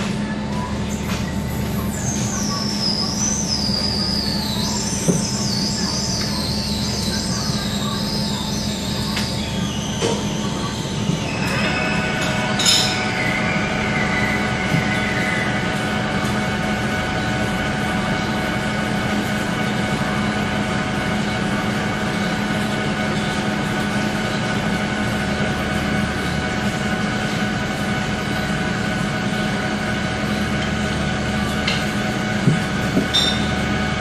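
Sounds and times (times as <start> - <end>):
machine tool humming: 0.0 - 34.0
steady whining tones: 0.0 - 34.0.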